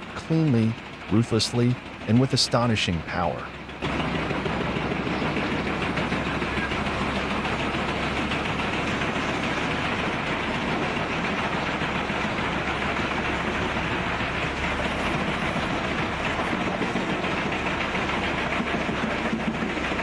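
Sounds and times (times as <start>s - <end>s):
low engine drone: 0.0s - 20.0s
wood chipper shredding logs: 0.0s - 20.0s.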